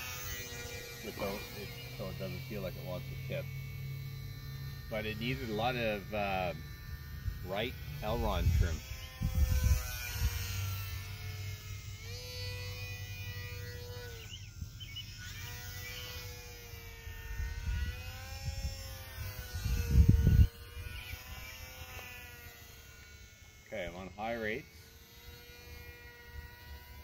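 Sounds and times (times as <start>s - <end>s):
model plane motor whining: 0.0s - 27.0s.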